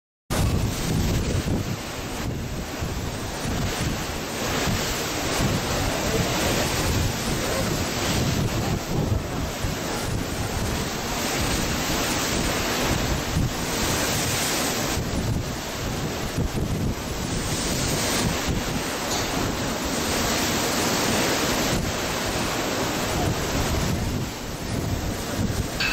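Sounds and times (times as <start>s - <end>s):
rush of sea water: 0.3s - 25.9s
wind buffeting microphone: 0.3s - 25.9s.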